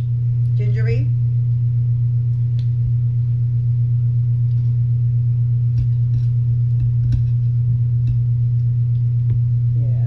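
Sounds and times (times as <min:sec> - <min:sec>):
loud steady low hum: 0:00.0 - 0:10.0.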